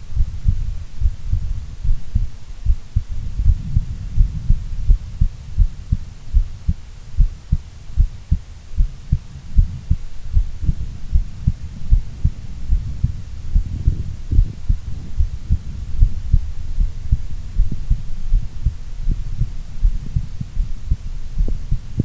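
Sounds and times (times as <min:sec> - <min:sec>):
heartbeat thumps: 0:00.0 - 0:22.0
low hum: 0:00.0 - 0:22.0.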